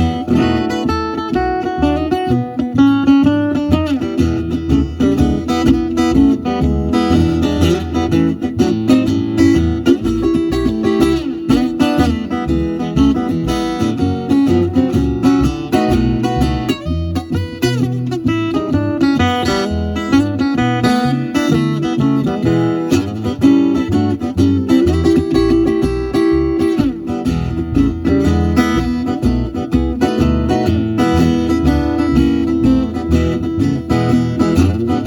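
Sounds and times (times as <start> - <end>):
acoustic guitar playing: 0.0 - 35.0.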